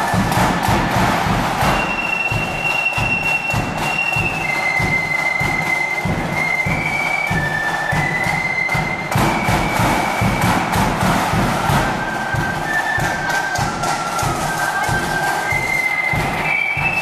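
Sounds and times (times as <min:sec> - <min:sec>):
flutes playing melody: 0:00.0 - 0:17.0.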